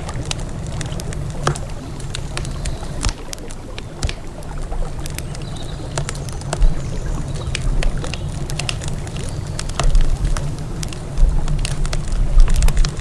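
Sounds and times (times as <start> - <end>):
campfire crackling: 0.0 - 13.0
river flowing: 0.0 - 13.0.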